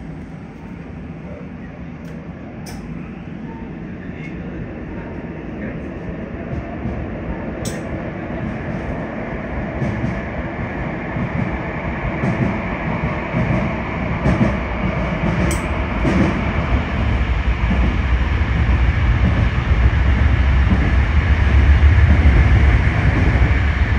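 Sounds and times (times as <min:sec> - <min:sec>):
subway train running rumble: 0:00.0 - 0:23.9.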